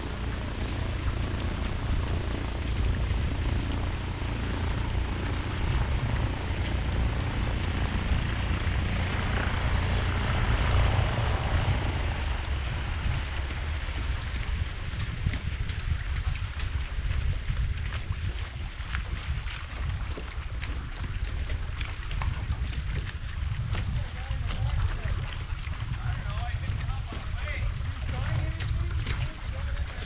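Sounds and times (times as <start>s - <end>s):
propeller engine droning: 0.0s - 30.0s
wind buffeting microphone: 0.0s - 30.0s.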